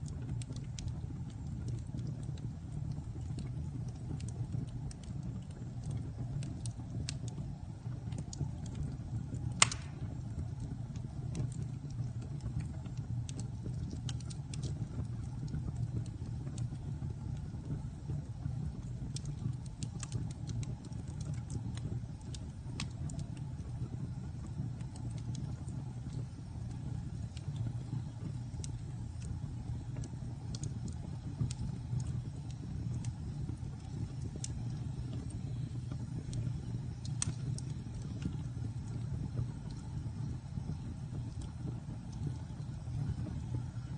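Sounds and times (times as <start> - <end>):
fire crackling and popping: 0.0 - 43.9
fire flame rumble: 0.0 - 43.9.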